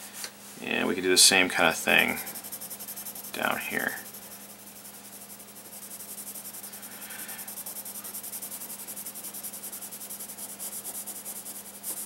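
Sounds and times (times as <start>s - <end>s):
pencil scratching on paper: 1.0s - 12.0s.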